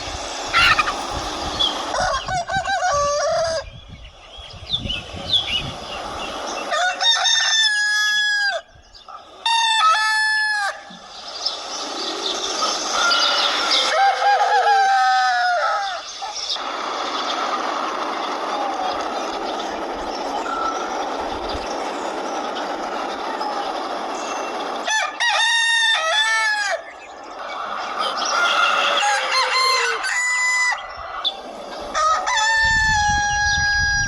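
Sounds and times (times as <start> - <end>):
roosters crowing: 0.0 - 4.4, 5.1 - 34.0.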